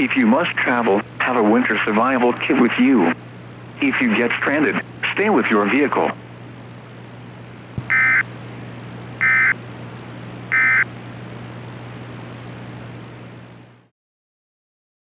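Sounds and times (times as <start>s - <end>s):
broadcast hiss and hum: 0.0s - 13.9s.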